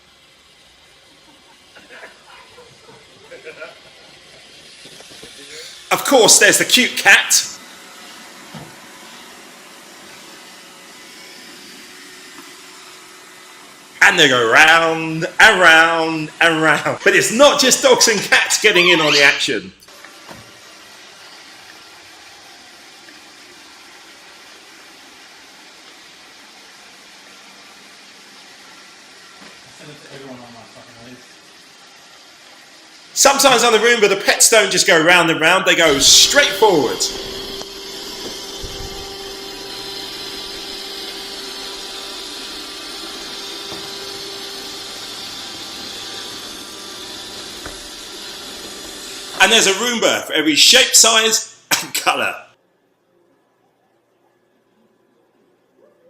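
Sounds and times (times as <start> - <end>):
robot vacuum cleaner whirring: 0.0 - 50.4.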